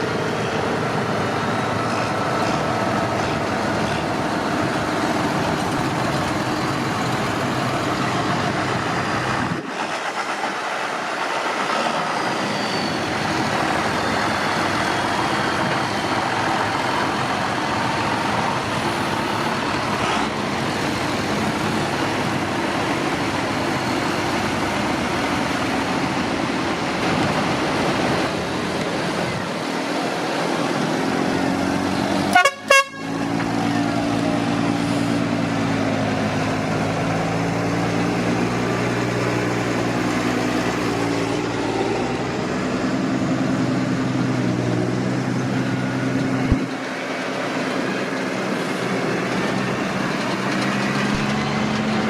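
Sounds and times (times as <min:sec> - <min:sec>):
tractor engines rumbling: 0:00.0 - 0:52.0.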